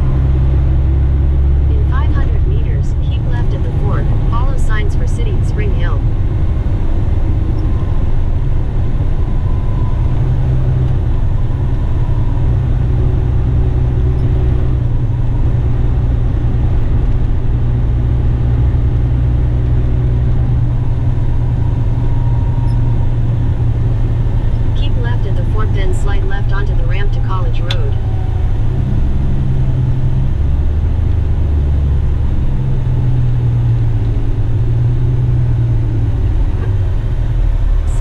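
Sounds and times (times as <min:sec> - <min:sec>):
truck diesel engine drone: 0:00.0 - 0:38.0.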